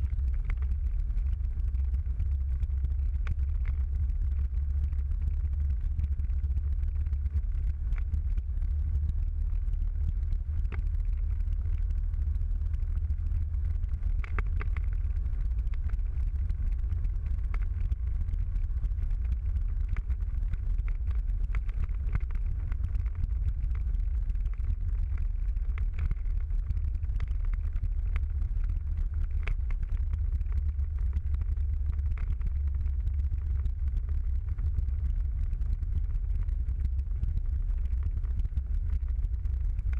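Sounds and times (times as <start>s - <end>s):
car engine and tyres rumbling: 0.0s - 39.9s
faint ticks: 0.0s - 39.9s.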